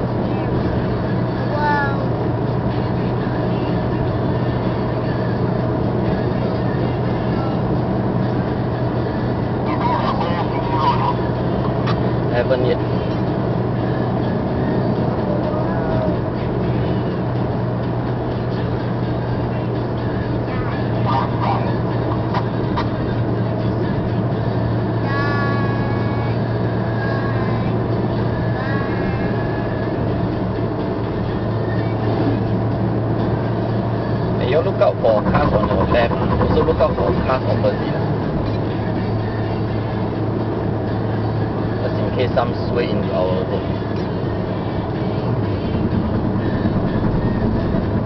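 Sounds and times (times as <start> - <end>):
car road and engine noise: 0.0 - 48.0.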